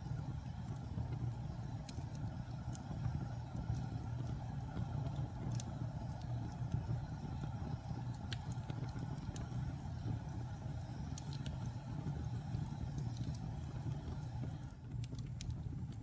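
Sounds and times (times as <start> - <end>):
fire roaring: 0.0 - 16.0
sharp crackling pops: 0.1 - 16.0.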